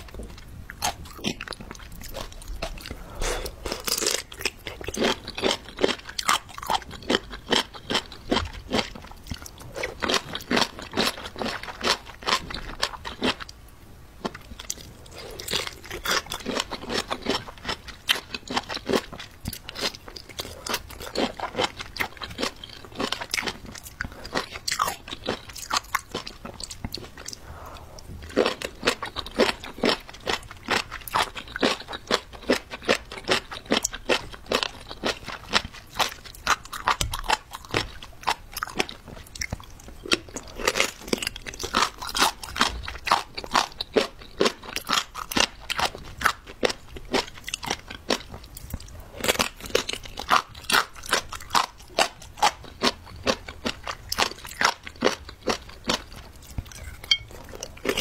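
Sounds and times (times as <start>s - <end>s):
crunchy chewing: 0.0s - 13.6s, 14.2s - 58.0s.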